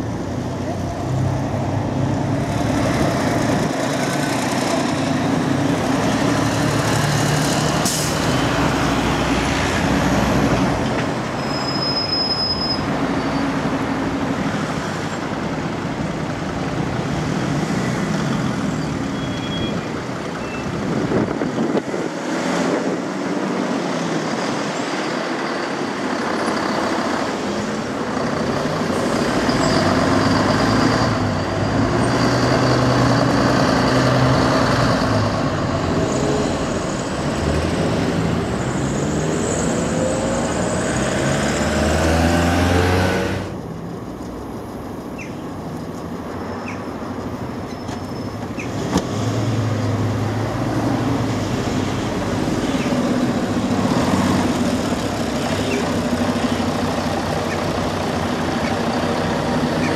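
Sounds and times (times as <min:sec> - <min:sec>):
bus diesel engine: 0:00.0 - 0:59.9
street traffic: 0:00.0 - 0:59.9.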